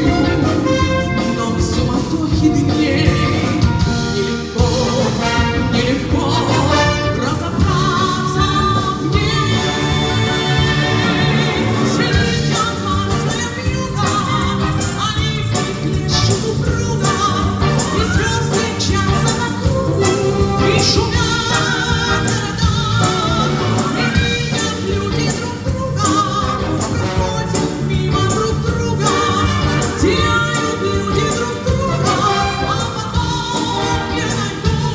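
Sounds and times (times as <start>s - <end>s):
brass band accompaniment: 0.0s - 34.9s
woman singing with vibrato: 0.0s - 34.9s.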